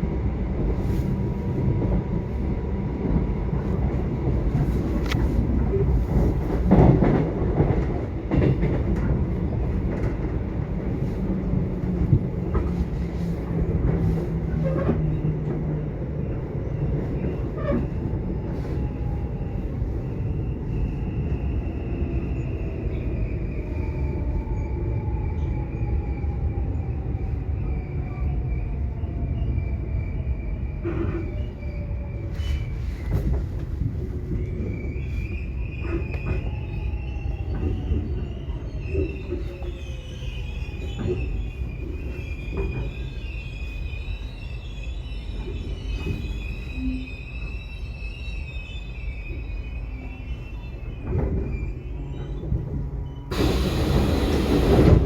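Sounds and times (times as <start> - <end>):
subway train rumbling: 0.0 - 55.0.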